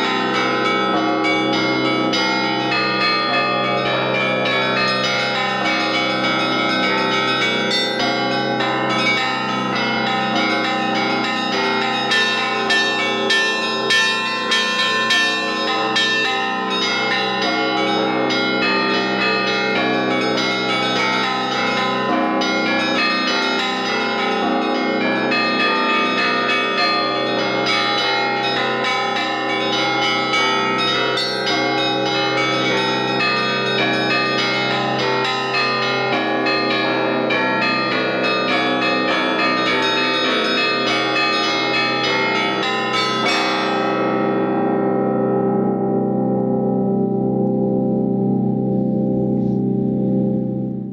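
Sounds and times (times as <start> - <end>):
small bells ringing rhythmically: 0.0 - 44.8
large bells humming: 0.0 - 50.9.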